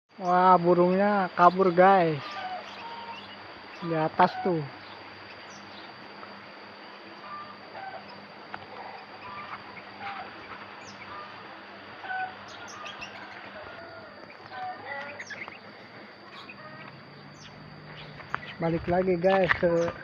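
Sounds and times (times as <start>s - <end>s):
steady high-pitched whine: 0.1s - 20.0s
bird chirping calls: 1.2s - 6.0s, 6.9s - 20.0s.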